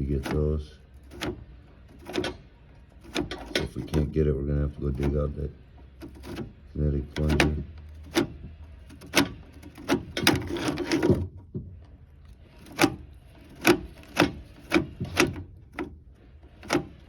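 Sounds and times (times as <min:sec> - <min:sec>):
cable scraping in pipe: 0:00.0 - 0:17.0.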